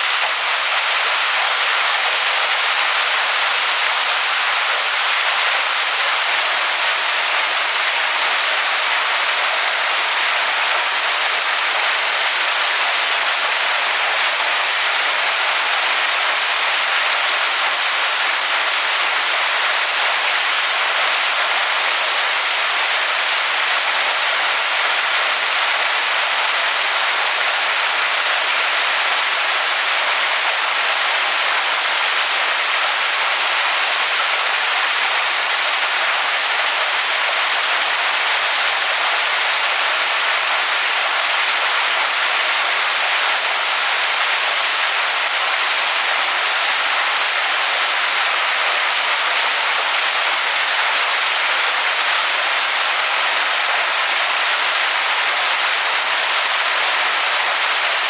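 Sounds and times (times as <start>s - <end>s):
waterfall splashing onto rocks: 0.0s - 58.0s.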